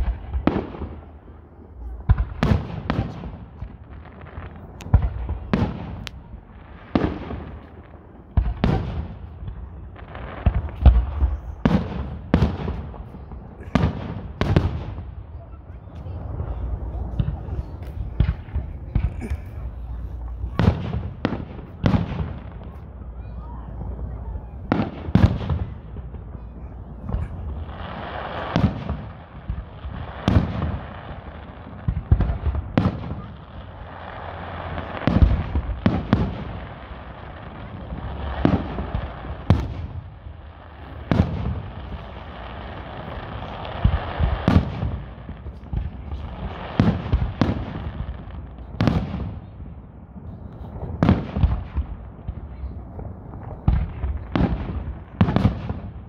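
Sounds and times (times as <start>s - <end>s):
firework bangs: 0.0s - 56.0s.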